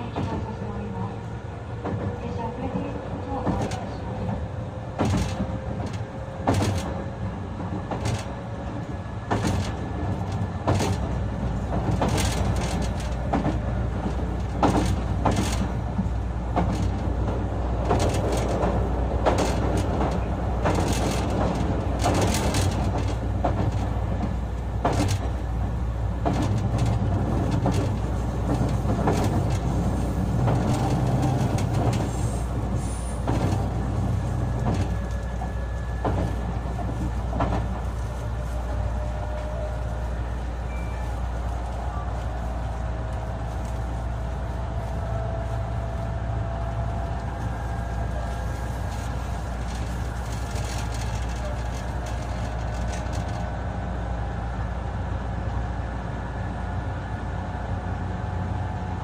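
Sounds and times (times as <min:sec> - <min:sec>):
wheels clacking over rail joints: 0:00.0 - 0:53.6
train rumble: 0:00.0 - 0:59.0.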